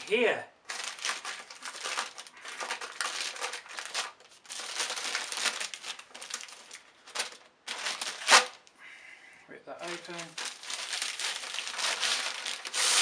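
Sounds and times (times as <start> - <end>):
plastic and paper packaging rustling: 0.0 - 8.6, 9.8 - 13.0.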